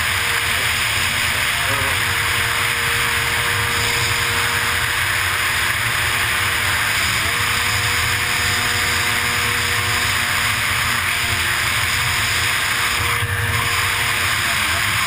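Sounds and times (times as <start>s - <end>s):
faint engine drone: 0.0s - 15.0s.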